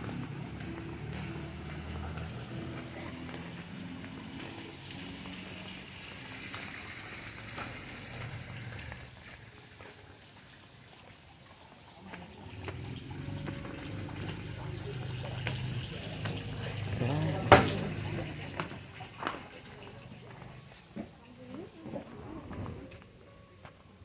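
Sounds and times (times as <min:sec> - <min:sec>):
fountain water splashing into pond: 0:00.0 - 0:20.8.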